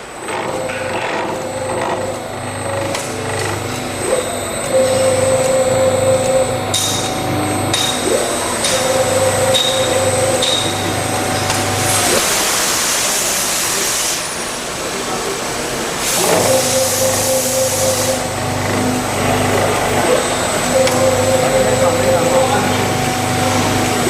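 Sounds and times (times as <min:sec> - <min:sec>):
lathe low hum: 0:00.0 - 0:12.4, 0:16.0 - 0:24.0
motor whine rising in pitch: 0:00.2 - 0:12.2, 0:16.2 - 0:24.0.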